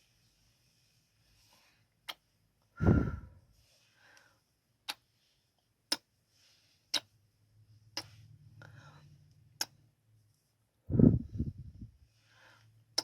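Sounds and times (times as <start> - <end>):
soft breaths: 0.0 - 9.6, 10.3 - 13.0.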